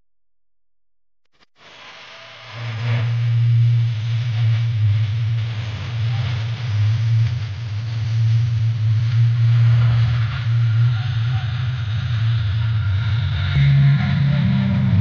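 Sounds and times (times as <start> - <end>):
loud low hum: 2.6 - 15.0.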